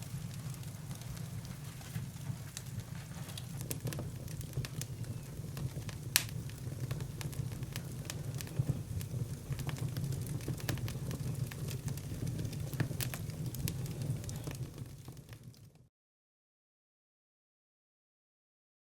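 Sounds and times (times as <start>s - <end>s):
fire crackling and popping: 0.0s - 15.9s.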